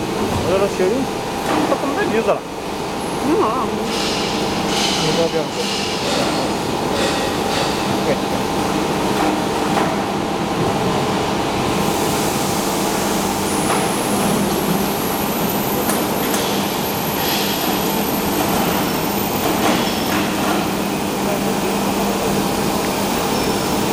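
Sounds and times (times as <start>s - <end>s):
machine mechanical hum: 0.0s - 23.9s.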